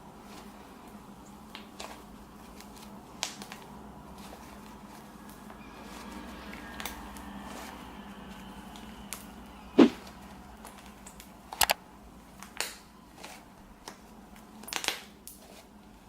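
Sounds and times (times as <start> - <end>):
low steady hum: 0.0 - 14.7.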